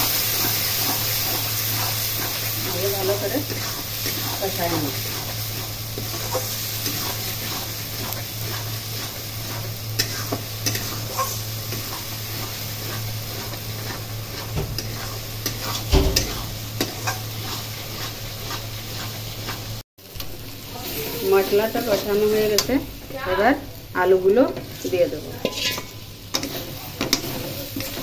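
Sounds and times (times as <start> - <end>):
paste sizzling in oil: 0.0 - 28.0
spatula scraping a metal pan: 0.2 - 19.7, 24.7 - 28.0.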